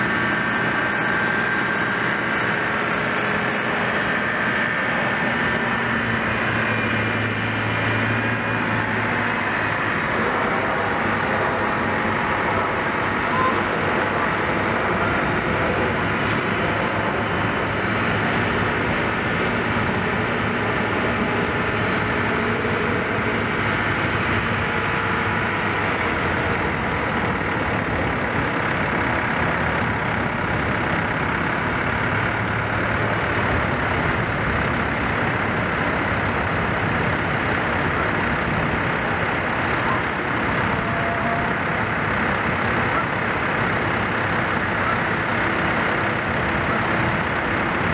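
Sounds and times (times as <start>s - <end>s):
diesel engine rumble: 0.0s - 47.9s.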